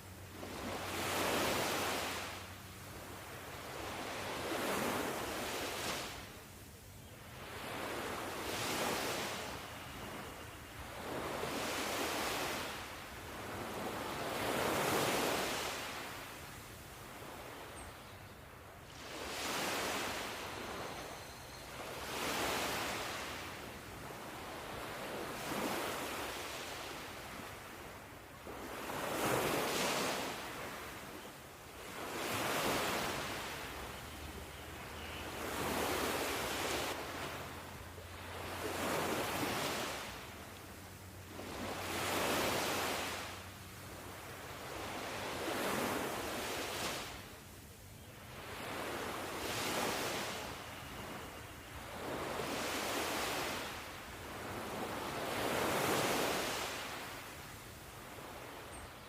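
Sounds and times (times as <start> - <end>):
ocean waves breaking on shore: 0.0 - 47.6, 48.2 - 59.0.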